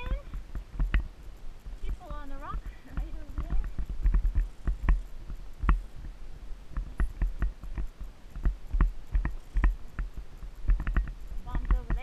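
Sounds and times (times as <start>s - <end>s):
horse hoofbeats on dirt trail: 0.0s - 12.0s.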